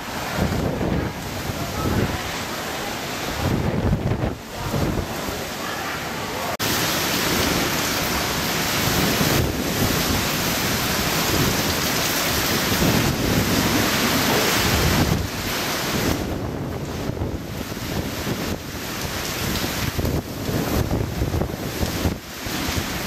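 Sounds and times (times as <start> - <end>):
wind buffeting microphone: 0.0 - 2.4, 3.1 - 5.5, 6.6 - 23.0
driving rain: 0.0 - 23.0
gusting wind: 0.0 - 23.0.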